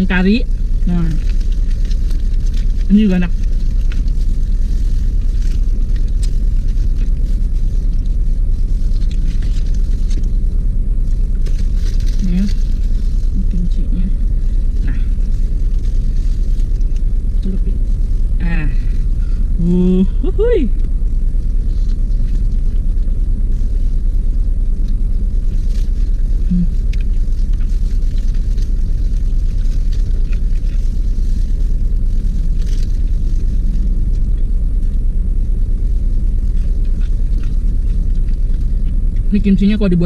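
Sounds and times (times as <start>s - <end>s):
plastic glove crinkling: 0.0s - 19.5s, 20.8s - 40.0s
car engine idling: 0.0s - 40.0s
closed-mouth hum: 0.0s - 40.0s
chewing food: 0.4s - 13.6s, 14.2s - 18.3s, 20.8s - 39.7s.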